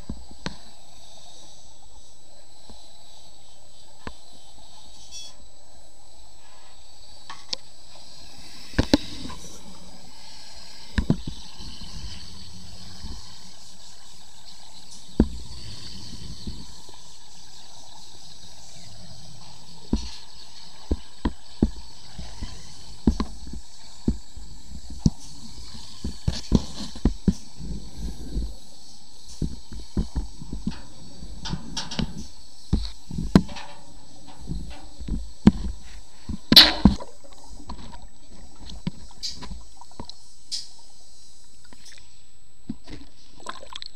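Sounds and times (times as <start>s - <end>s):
muffled underwater hiss: 0.0s - 43.9s.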